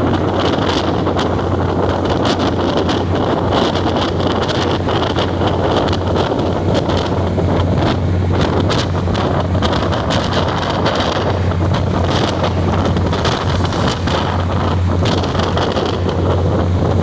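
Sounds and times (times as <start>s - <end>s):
train low rumble: 0.0s - 17.0s
wind buffeting microphone: 0.0s - 17.0s.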